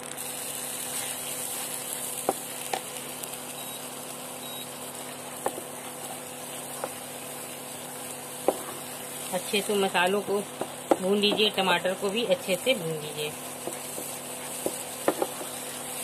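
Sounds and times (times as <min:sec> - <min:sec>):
sauce sizzling in hot oil: 0:00.0 - 0:16.0.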